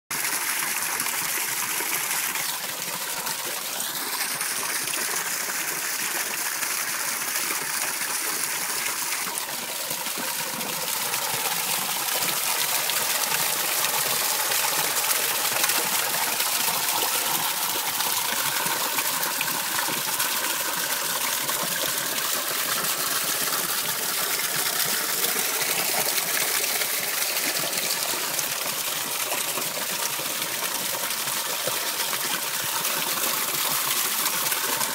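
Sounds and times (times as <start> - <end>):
running water rushing: 0.1 - 34.9.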